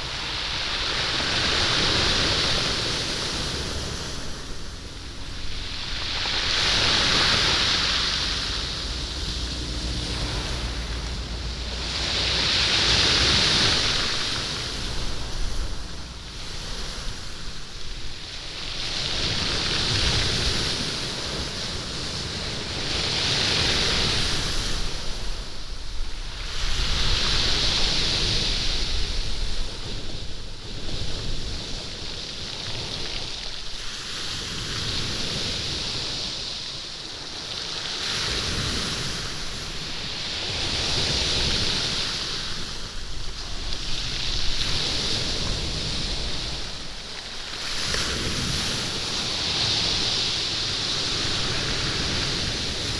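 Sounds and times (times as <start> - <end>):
waves rattling beach stones: 0.0 - 52.9.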